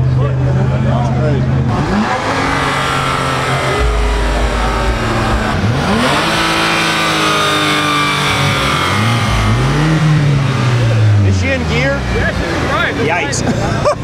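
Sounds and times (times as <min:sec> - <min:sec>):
car engine revving: 0:01.5 - 0:12.9.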